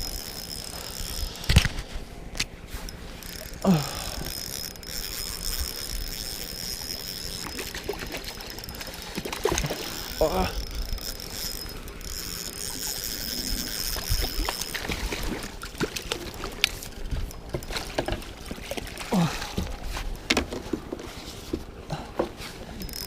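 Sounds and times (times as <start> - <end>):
fishing tackle clicking: 0.0 - 19.1
water trickling and lapping: 0.0 - 23.0.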